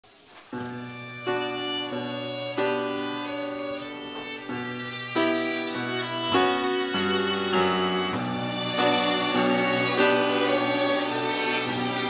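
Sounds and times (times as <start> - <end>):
string ensemble playing slow chords: 1.0 - 12.0.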